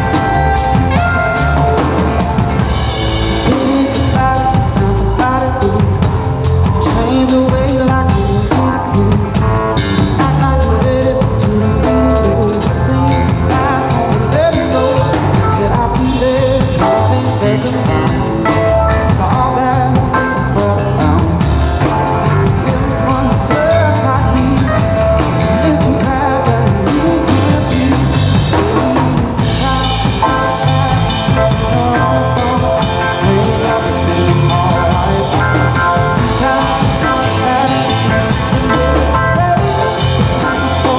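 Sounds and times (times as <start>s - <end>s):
drum kit beat: 0.0s - 40.9s
live rock band playing: 0.0s - 40.9s.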